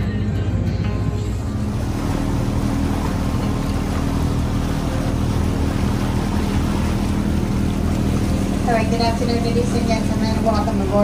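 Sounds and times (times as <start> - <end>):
boat engine hum: 0.0 - 11.0
churning water: 0.0 - 11.0.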